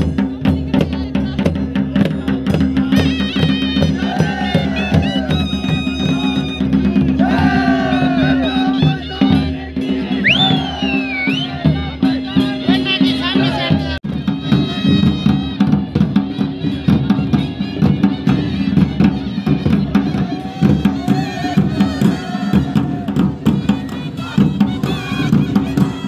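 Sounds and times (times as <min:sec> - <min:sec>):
drum ensemble fast rhythm: 0:00.0 - 0:26.0.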